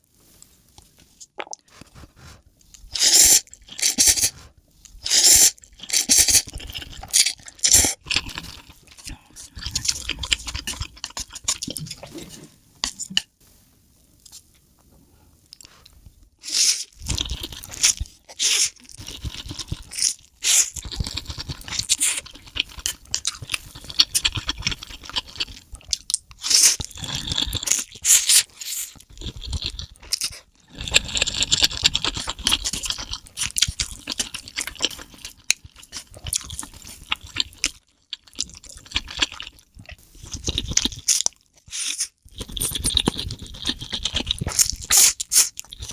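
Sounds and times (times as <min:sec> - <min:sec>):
person chewing and crunching food: 0:00.2 - 0:13.4, 0:15.3 - 0:45.9.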